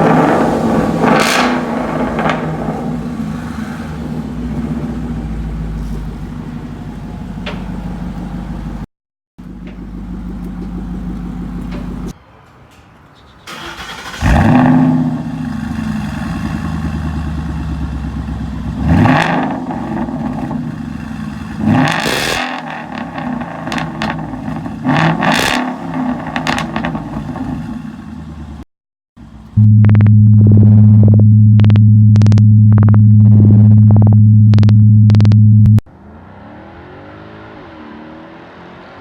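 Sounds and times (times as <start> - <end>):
car engine idling and revving: 0.0 - 12.2, 13.5 - 28.6, 29.2 - 39.0.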